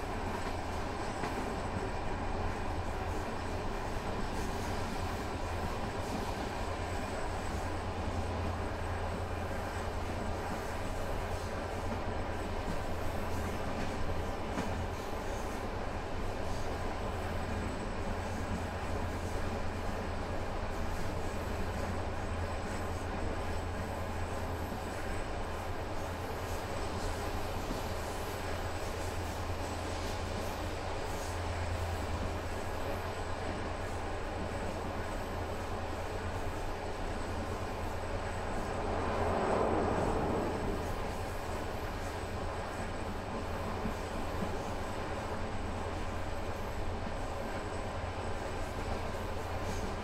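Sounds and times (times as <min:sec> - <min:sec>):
train rumbling inside carriage: 0:00.0 - 0:50.0.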